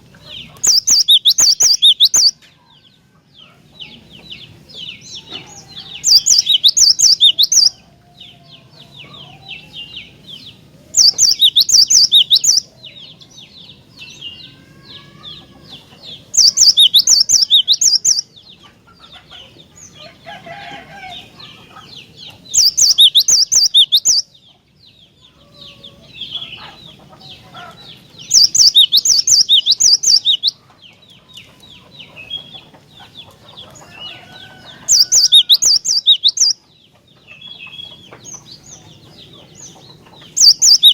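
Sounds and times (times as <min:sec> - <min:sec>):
soft bird chattering calls: 0:00.2 - 0:02.4, 0:03.8 - 0:07.8, 0:10.8 - 0:20.0, 0:21.1 - 0:24.3, 0:25.2 - 0:40.9.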